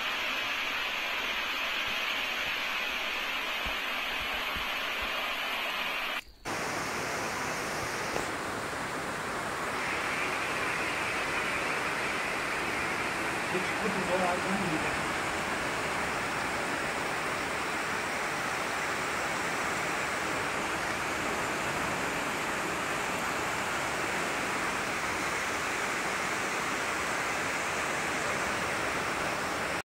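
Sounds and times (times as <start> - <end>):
flooded river rushing: 0.7 - 29.8.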